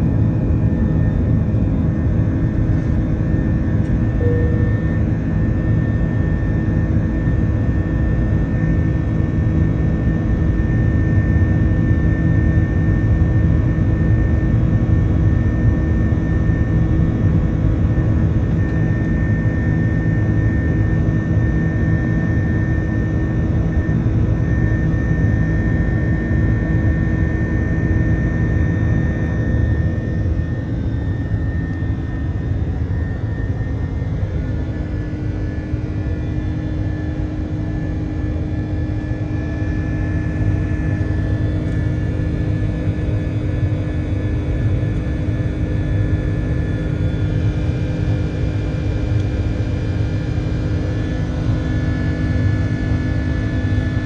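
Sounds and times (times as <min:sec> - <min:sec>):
faint steady whine: 0:00.0 - 0:54.0
jet engine and airflow noise: 0:00.0 - 0:54.0.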